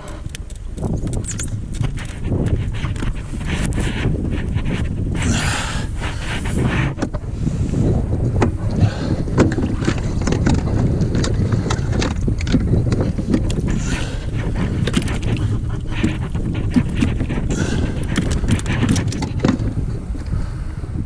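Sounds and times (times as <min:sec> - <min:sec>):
water slapping against kayak hull: 0:00.0 - 0:20.4
wind on microphone: 0:00.0 - 0:21.0.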